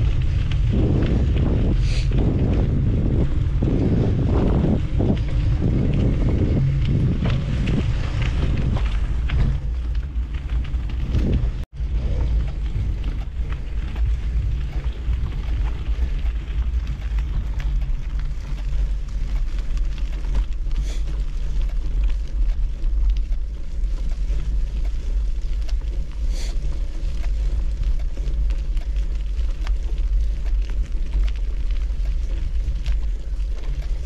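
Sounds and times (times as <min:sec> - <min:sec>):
bike tyres rolling on dirt: 0:00.0 - 0:34.0
wind buffeting microphone: 0:00.0 - 0:34.0.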